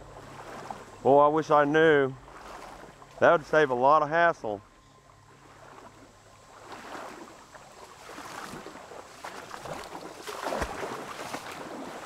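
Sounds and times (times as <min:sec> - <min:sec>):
water splashing around wading legs: 0:00.0 - 0:03.7, 0:05.3 - 0:12.0.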